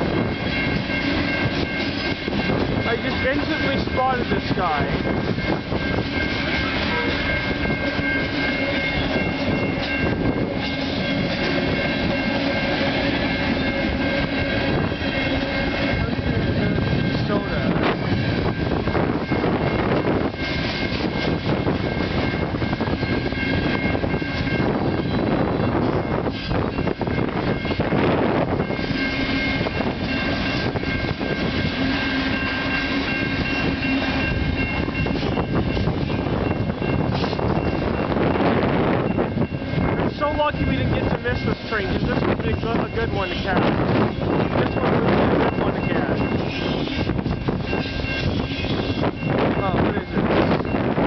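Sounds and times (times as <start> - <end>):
high-pitched tones: 0.0 - 51.0
steel wheels rumbling on rail: 0.0 - 51.0.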